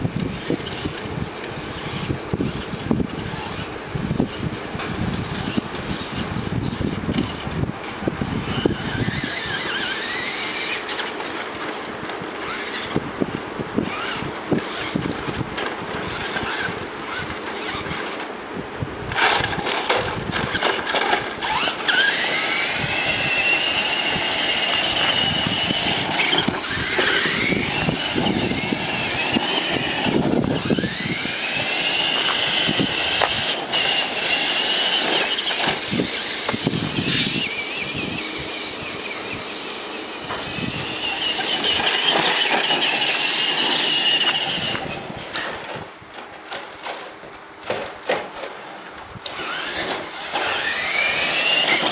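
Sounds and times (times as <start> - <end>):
toy truck motor whining: 0.0 - 13.1, 13.8 - 18.3, 19.1 - 48.5, 49.2 - 51.9
clattering wheels: 0.0 - 18.4, 19.1 - 51.9.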